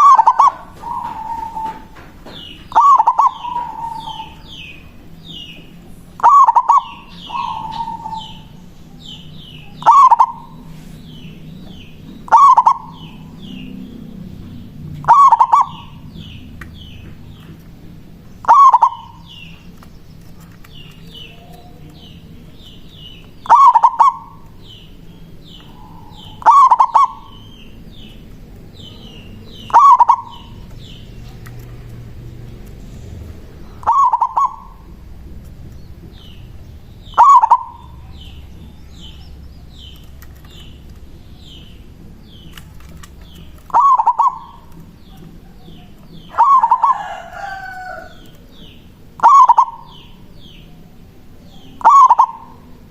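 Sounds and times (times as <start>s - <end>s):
dove cooing: 0.0s - 17.4s, 18.4s - 52.9s
small bird chirping high: 0.0s - 17.6s, 18.3s - 32.0s, 33.5s - 35.1s, 35.7s - 52.8s.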